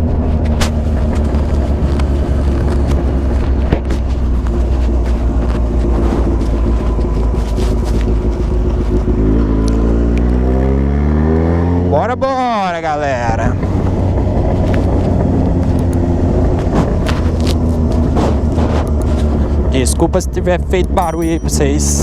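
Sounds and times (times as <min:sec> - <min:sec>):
motorcycle engine revving: 0:00.0 - 0:19.8.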